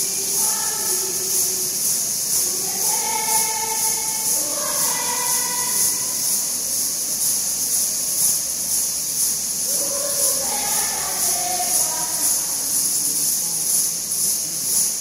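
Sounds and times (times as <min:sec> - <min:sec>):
group singing slow tune: 0:00.0 - 0:15.0
tambourines jingling: 0:00.0 - 0:15.0.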